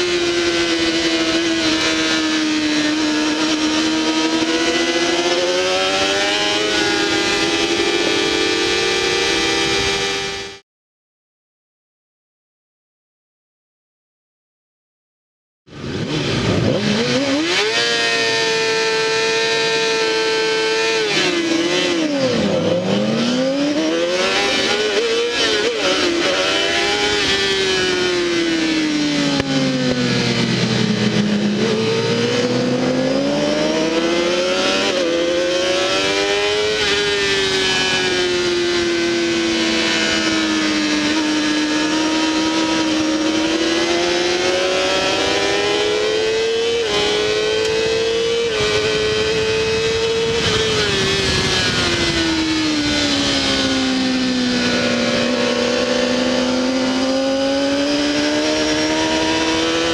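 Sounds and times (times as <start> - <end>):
motorcycle engine at high revs: 0.0 - 10.6, 15.7 - 59.9
rushing wind: 0.0 - 10.6, 15.7 - 59.9.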